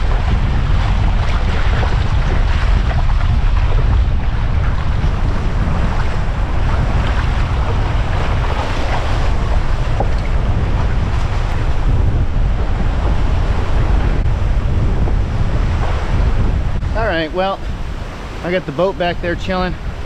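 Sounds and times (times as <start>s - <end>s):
lake waves splashing: 0.0s - 20.0s
wind buffeting microphone: 0.0s - 20.0s.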